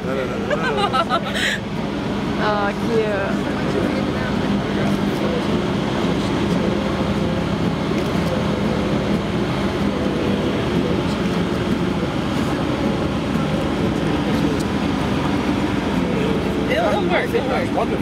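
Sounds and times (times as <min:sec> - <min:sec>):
constant low hum: 0:00.0 - 0:18.0
loud mechanical rumble: 0:00.0 - 0:18.0.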